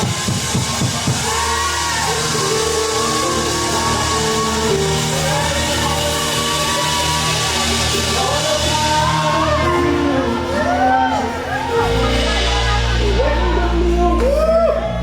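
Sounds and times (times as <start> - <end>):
live worship music: 0.0 - 15.0.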